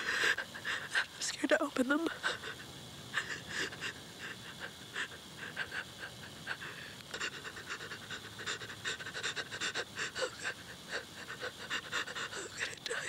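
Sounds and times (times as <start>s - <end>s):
woman panting and crying: 0.0s - 13.0s.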